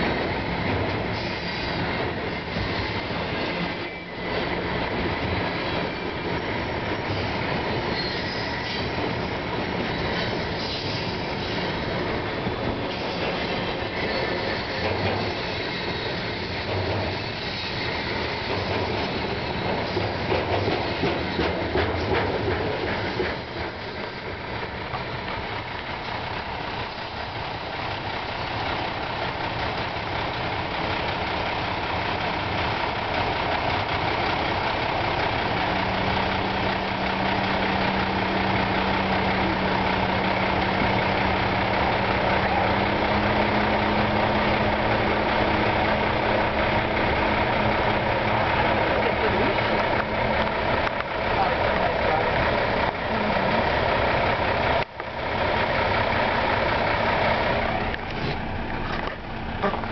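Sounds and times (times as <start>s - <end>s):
train wheels clattering over rails: 0.0s - 59.9s
engine drone: 8.4s - 59.9s.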